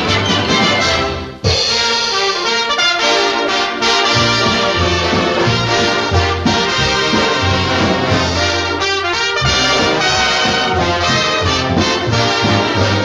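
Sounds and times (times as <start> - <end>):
orchestral cartoon music with brass: 0.0 - 13.0.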